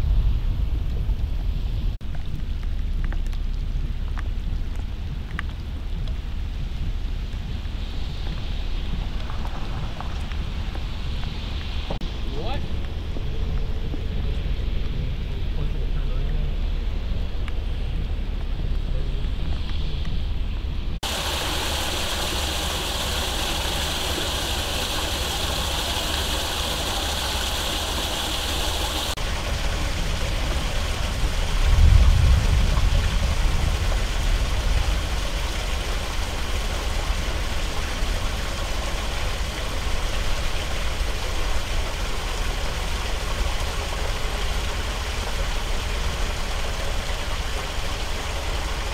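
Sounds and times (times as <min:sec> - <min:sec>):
low steady rumble: 0:00.0 - 0:48.9
heavy rain splashing on water: 0:02.0 - 0:16.6, 0:21.0 - 0:48.9.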